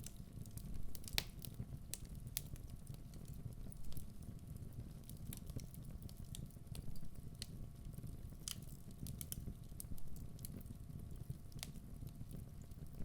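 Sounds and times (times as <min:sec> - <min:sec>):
logs crackling and popping: 0:00.0 - 0:13.0.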